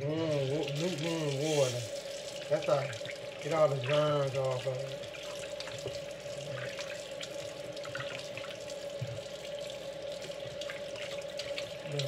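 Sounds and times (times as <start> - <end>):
faucet running into bowl of water: 0.0 - 12.0
water splashing and sloshing: 0.0 - 12.0.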